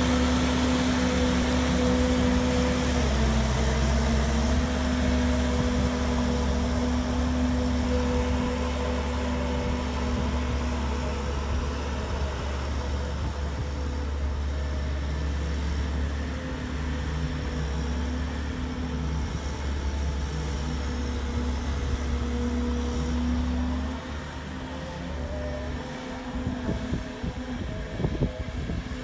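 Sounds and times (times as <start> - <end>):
tracked vehicle engine running: 0.0 - 29.0.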